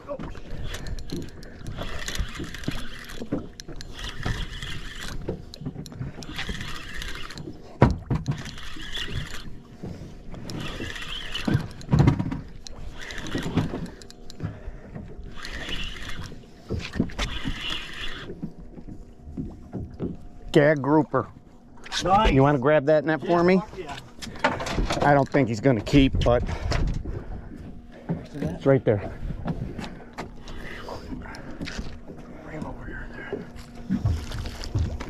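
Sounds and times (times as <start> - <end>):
fishing reel gears whirring: 0.2 - 27.6, 28.2 - 35.0.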